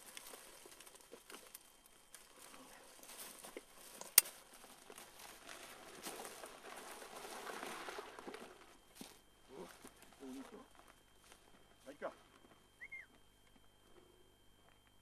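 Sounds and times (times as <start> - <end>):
dry brush rustling and crackling: 0.0 - 12.9.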